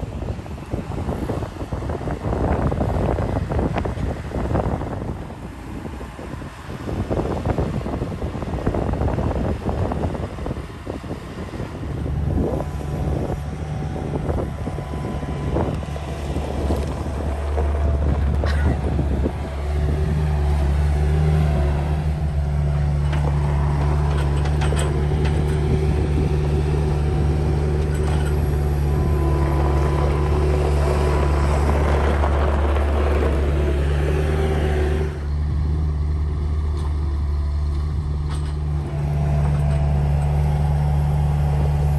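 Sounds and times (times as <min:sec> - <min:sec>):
diesel engine running: 0:00.0 - 0:41.9
wind buffeting microphone: 0:00.0 - 0:41.9.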